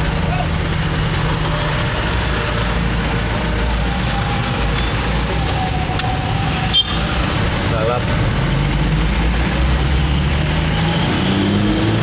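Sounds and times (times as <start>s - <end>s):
road noise inside cab: 0.0s - 12.0s.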